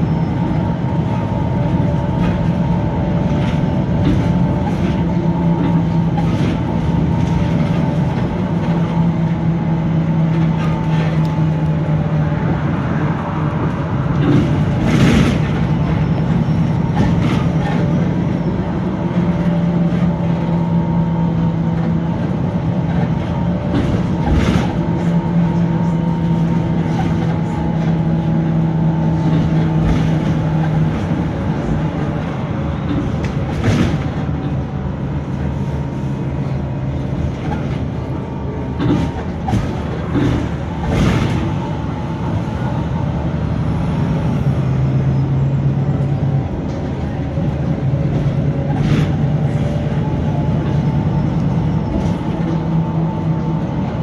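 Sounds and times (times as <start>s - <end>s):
bus body rattles: 0.0s - 54.0s
bus engine drone: 0.0s - 54.0s.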